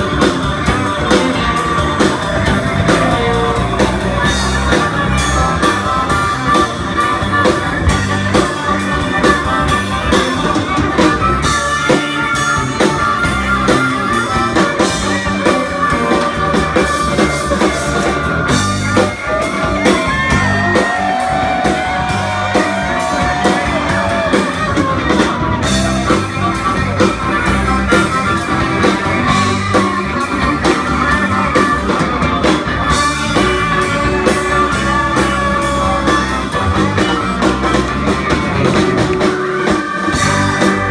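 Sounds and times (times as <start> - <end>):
drum kit: 0.0 - 40.9
electric guitar playing: 0.0 - 40.9.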